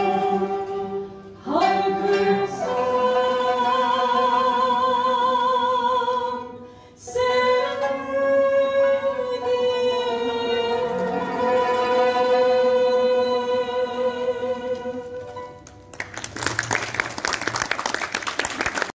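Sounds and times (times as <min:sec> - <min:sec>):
woman singing slow song: 0:00.0 - 0:15.4.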